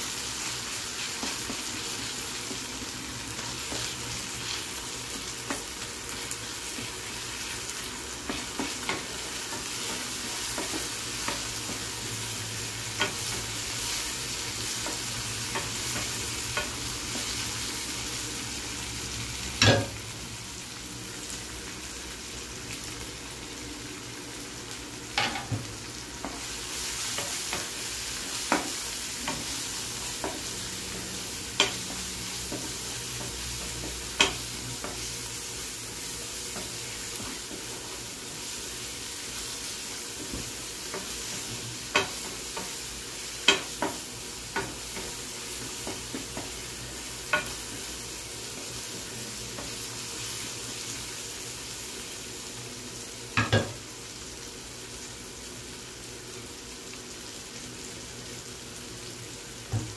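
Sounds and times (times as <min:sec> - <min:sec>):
masala sizzling in oil: 0:00.0 - 0:59.9.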